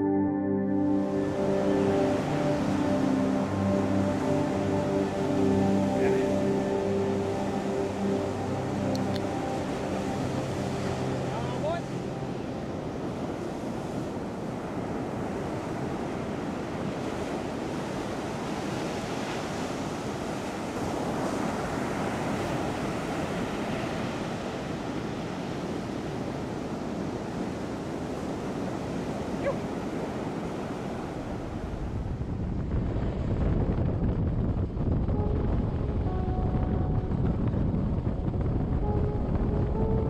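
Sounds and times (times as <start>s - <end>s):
surf breaking on a beach: 1.4s - 39.9s.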